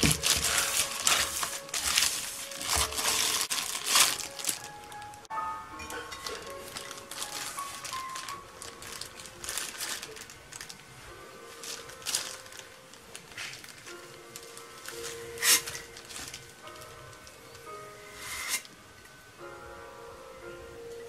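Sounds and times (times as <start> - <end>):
plastic glove crinkling: 0.0 - 18.8
soft background music: 0.0 - 21.0.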